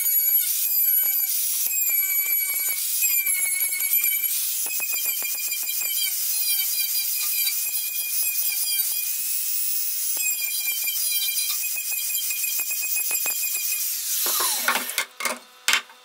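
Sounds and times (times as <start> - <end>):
angle grinder sanding wood: 0.0 - 15.0.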